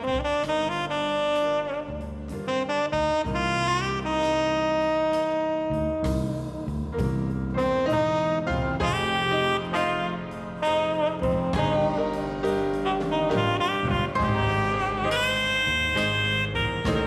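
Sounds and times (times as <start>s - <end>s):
jazz band accompaniment: 0.0s - 17.0s
saxophone melody: 0.0s - 17.0s.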